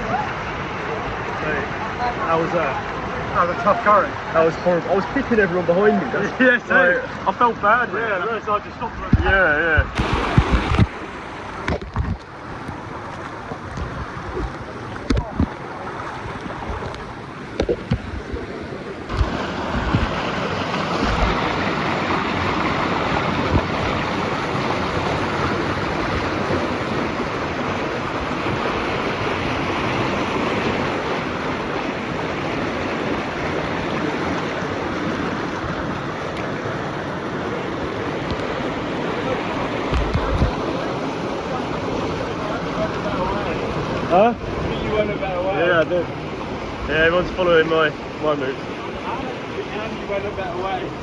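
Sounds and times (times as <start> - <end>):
river water rushing: 0.0 - 51.0.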